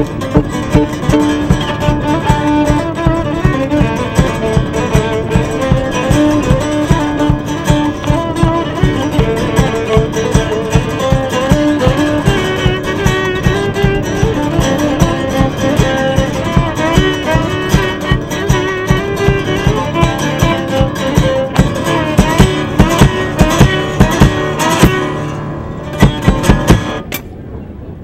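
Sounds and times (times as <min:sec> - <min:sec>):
bowed fiddle melody: 0:00.0 - 0:27.1
acoustic guitar strumming: 0:00.0 - 0:27.2.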